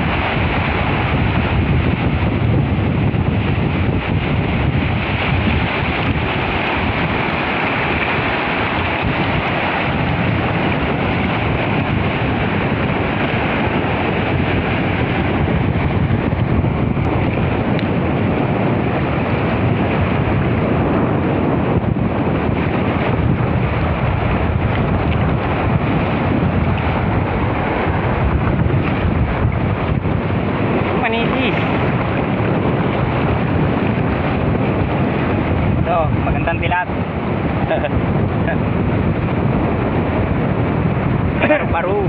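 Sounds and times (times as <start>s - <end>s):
moving sea water: 0.0s - 42.0s
wind on microphone: 0.0s - 42.0s.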